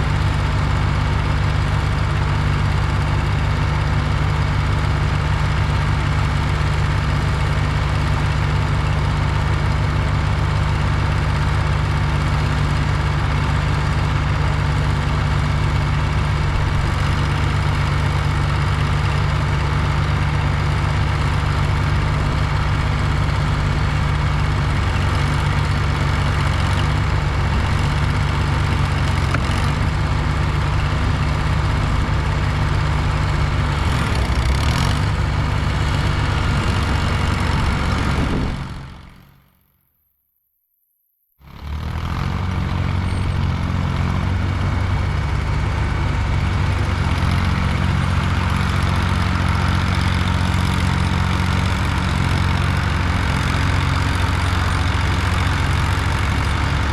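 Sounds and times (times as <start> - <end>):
heavy machine engine running: 0.0 - 39.6, 41.4 - 56.9.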